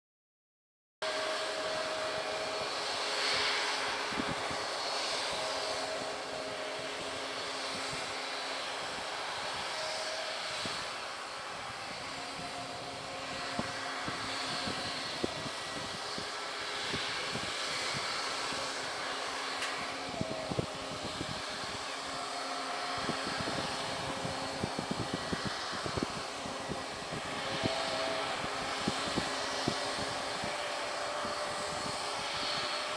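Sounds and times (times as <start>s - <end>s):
airliner engines running: 1.0s - 32.9s.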